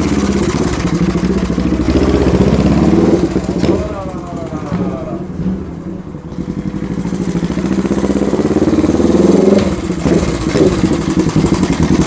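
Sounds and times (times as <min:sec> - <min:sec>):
motorcycle engine approaching: 0:00.0 - 0:12.0.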